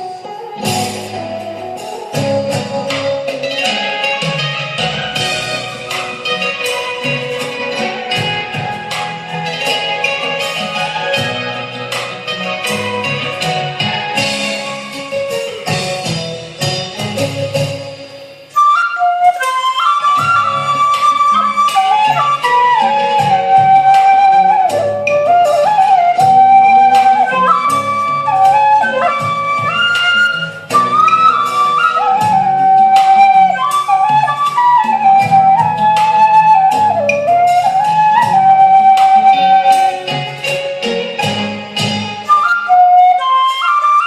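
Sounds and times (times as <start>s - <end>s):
bamboo flute melody: 0.0s - 44.0s
chords and light percussion: 0.0s - 44.0s.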